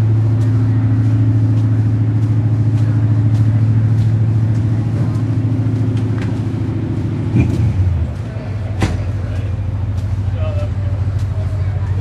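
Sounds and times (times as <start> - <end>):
pickup truck engines idling: 0.0 - 12.0.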